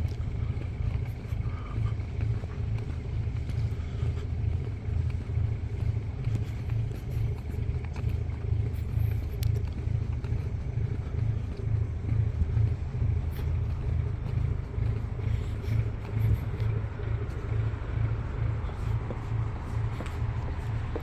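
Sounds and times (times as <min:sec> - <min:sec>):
boat engine rumble: 0:00.0 - 0:21.0
faint steady hum: 0:00.0 - 0:21.0.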